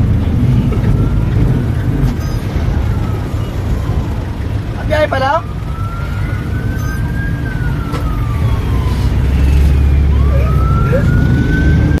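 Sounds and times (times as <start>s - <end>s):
heavy engine rumble inside vehicle: 0.0s - 12.0s.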